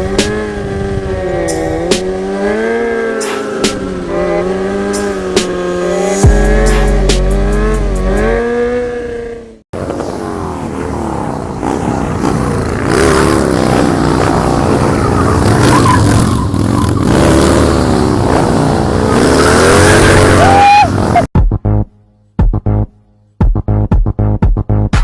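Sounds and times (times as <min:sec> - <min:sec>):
motorcycle engines revving: 0:00.0 - 0:21.3.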